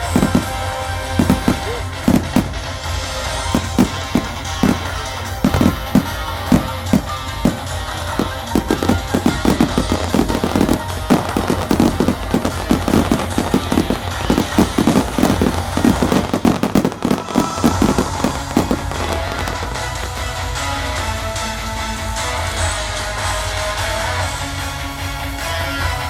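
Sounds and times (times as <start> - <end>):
fireworks bangs and crackles: 0.0 - 26.0
music playing: 0.0 - 26.0.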